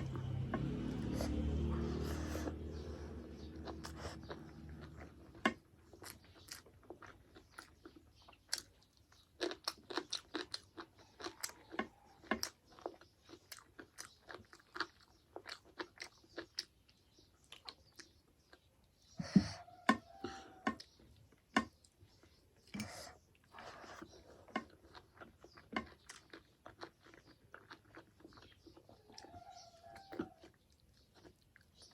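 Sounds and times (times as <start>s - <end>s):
chewing and crunching food: 0.0s - 31.9s.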